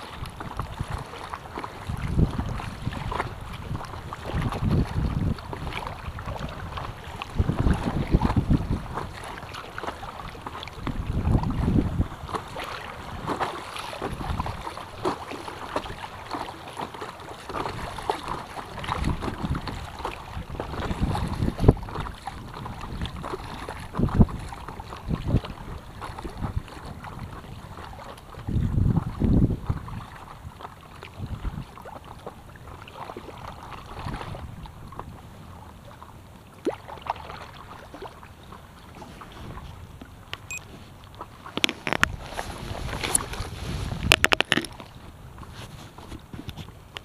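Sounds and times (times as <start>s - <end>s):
wind buffeting microphone: 0.0s - 16.4s, 17.4s - 32.7s, 33.7s - 35.7s, 41.8s - 47.0s
water splashing against paddleboard: 0.0s - 47.0s.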